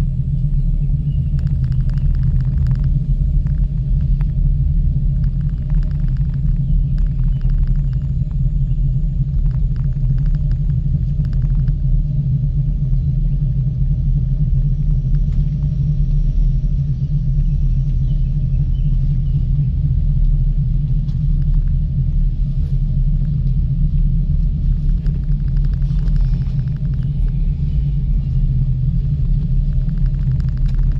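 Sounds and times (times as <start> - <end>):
gondola rumbling along cable: 0.0 - 30.9
faint ticks and rattles: 1.0 - 30.9.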